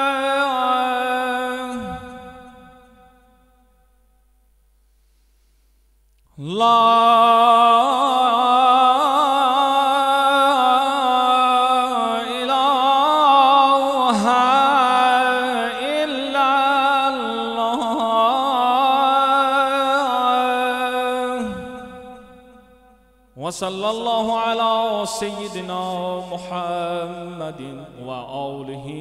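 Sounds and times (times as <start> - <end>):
man chanting call to prayer: 0.0 - 2.8, 6.4 - 22.4, 23.4 - 29.0.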